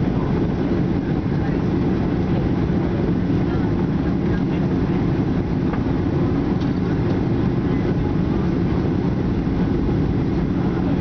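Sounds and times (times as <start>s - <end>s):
jet cabin engine drone: 0.0s - 11.0s.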